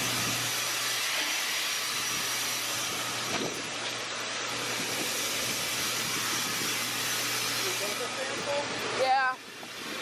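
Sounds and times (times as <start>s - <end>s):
rushing machine noise: 0.0s - 10.0s.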